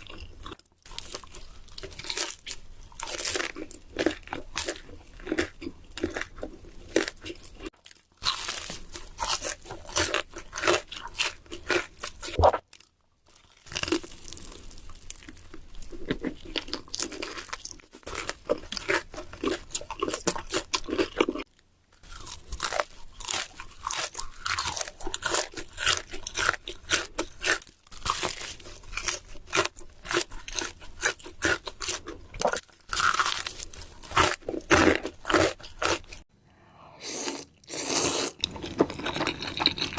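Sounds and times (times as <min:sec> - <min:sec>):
crunchy chewing: 0:00.0 - 0:36.2, 0:37.0 - 0:39.9.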